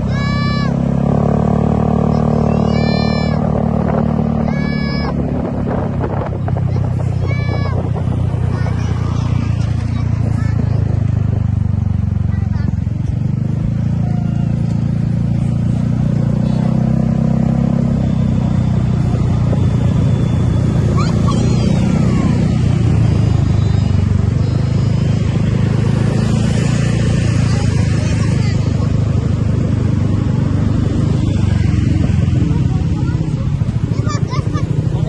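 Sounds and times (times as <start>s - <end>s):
bus engine rumbling: 0.0s - 35.0s.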